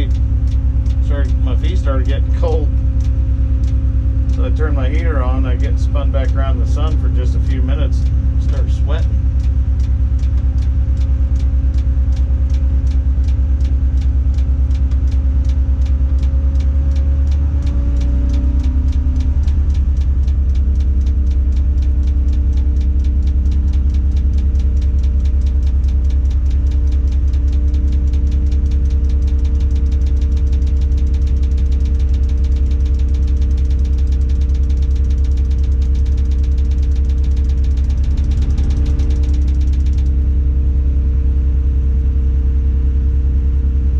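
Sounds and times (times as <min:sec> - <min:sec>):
fast even ticking: 0:00.0 - 0:40.4
diesel engine running: 0:00.0 - 0:43.9.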